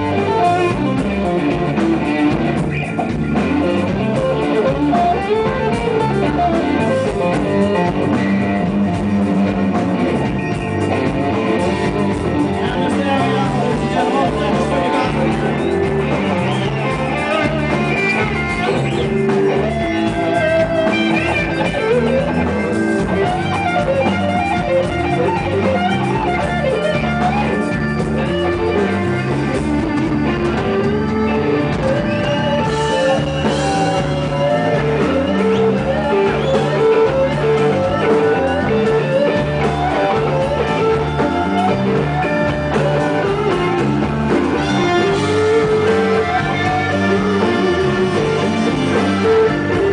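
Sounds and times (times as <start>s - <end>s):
blues-rock band playing live: 0.0s - 49.9s
lead guitar bending lines: 0.0s - 49.9s.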